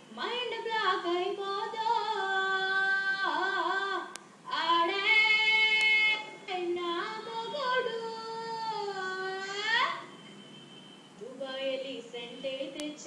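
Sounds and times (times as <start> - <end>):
woman singing unaccompanied: 0.1 - 10.0, 11.2 - 13.0.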